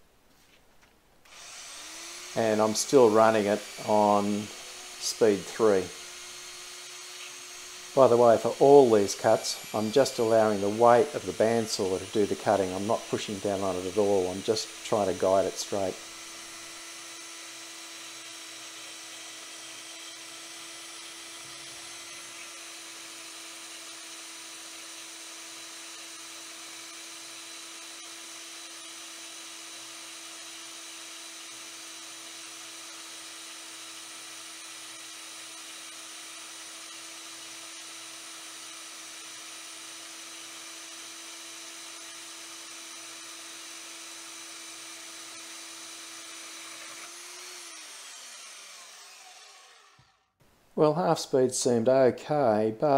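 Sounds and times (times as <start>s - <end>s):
bandsaw cutting steel bar: 1.3s - 50.3s.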